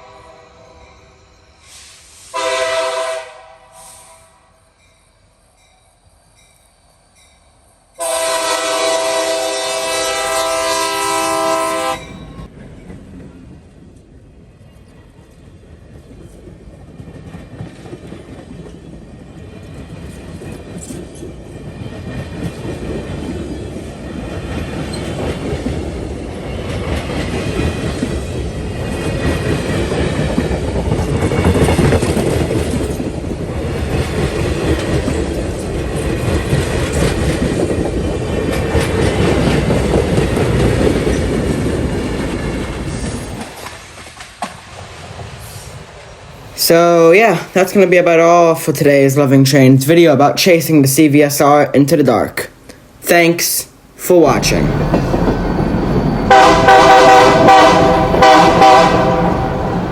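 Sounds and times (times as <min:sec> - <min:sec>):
passenger train rumbling past: 0:00.0 - 0:59.9.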